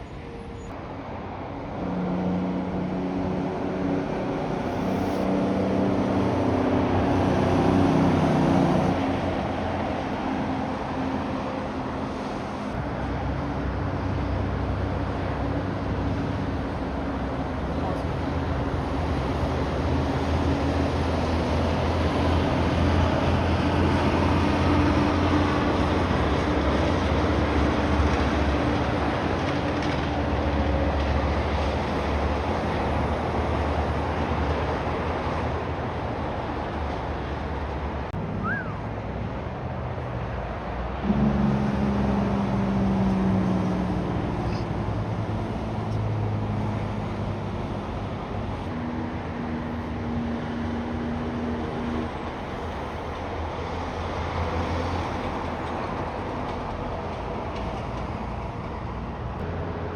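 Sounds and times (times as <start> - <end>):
diesel truck engines droning: 0.0 - 59.9
loud close engine: 1.5 - 57.5.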